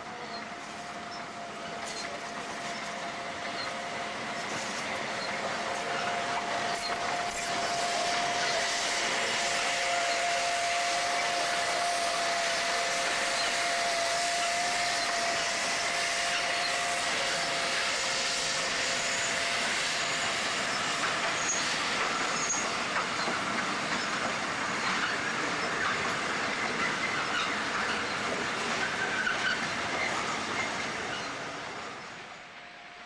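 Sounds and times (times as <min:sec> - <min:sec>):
steam locomotive and wagons rolling: 0:00.0 - 0:33.0
steam hissing: 0:00.4 - 0:32.6.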